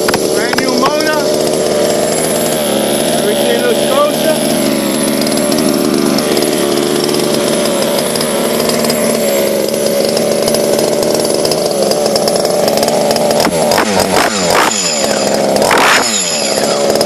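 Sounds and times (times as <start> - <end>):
two-stroke engine idling: 0.0 - 17.0.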